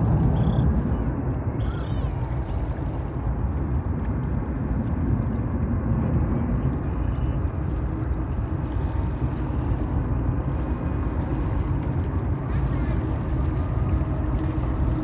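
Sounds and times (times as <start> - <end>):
distant jet engines roaring: 0.0 - 15.0.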